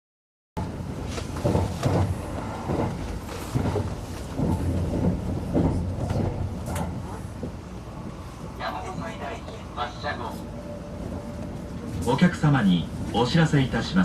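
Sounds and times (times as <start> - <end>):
train running rumble: 0.6 - 14.0.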